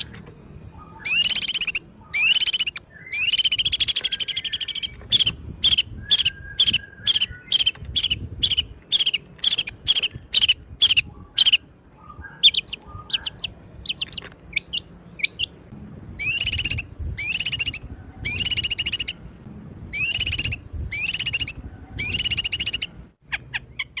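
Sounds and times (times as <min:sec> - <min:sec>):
bird trills: 0:00.0 - 0:19.3, 0:19.9 - 0:24.0
songbird singing: 0:00.0 - 0:24.0.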